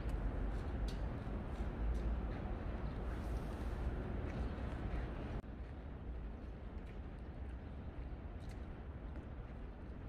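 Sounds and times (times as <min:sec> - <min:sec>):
distant traffic hum: 0:00.0 - 0:10.0.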